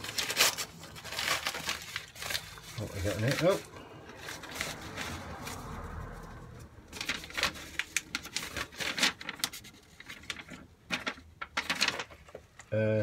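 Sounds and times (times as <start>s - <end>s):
paper and envelope rustling: 0.0s - 13.0s.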